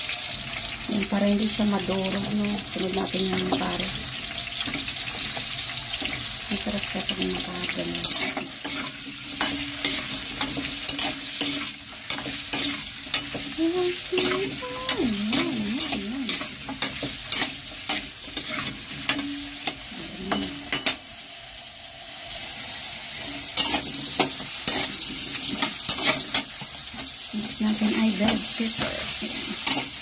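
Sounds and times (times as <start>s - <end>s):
vegetables sizzling in hot oil: 0.0s - 30.0s
metal spatula scraping a pan: 3.1s - 21.0s, 22.3s - 30.0s.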